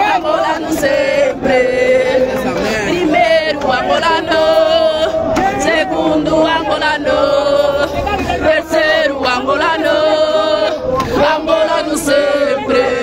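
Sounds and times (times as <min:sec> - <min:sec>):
crowd singing a chant: 0:00.0 - 0:13.0.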